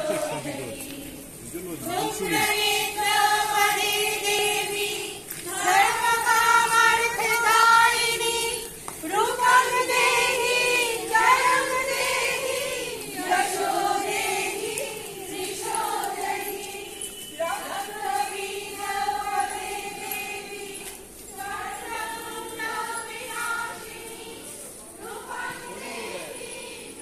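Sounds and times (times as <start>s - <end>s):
women and girls singing together: 0.0s - 27.0s.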